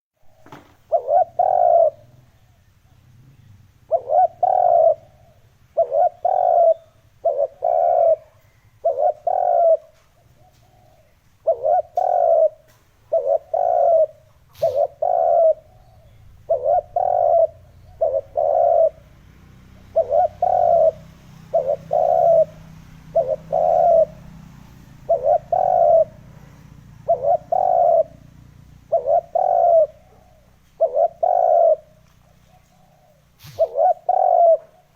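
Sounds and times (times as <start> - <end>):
dove cooing: 0.2 - 2.8, 3.8 - 34.9.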